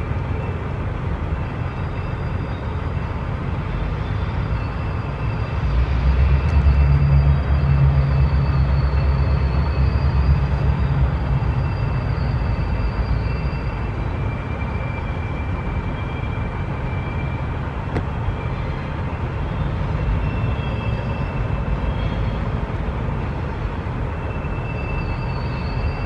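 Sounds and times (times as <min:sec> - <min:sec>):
diesel locomotive engine rumble: 0:00.0 - 0:26.0
faint wheel squeals: 0:00.3 - 0:23.3, 0:24.0 - 0:26.0.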